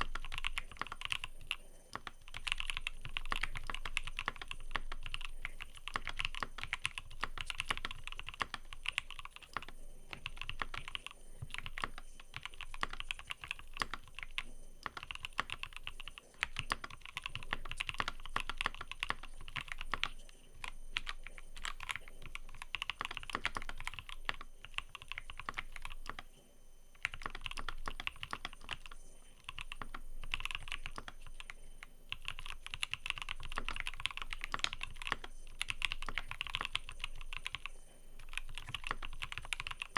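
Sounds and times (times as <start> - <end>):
mechanical keyboard typing: 0.0 - 26.3, 27.0 - 39.9.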